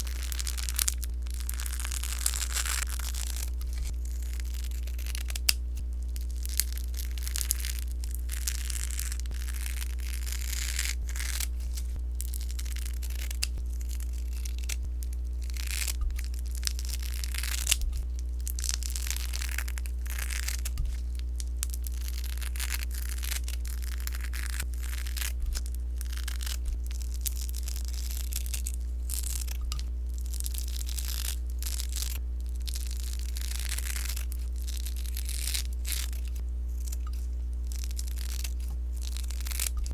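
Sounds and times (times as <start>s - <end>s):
slime crackling and popping: 0.0s - 39.9s
steady low hum: 0.0s - 39.9s.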